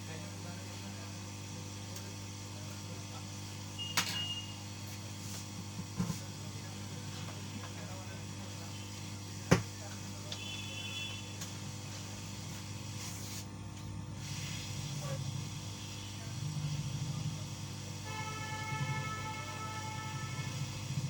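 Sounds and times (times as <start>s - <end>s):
hot-air station hum and hiss: 0.0s - 21.0s.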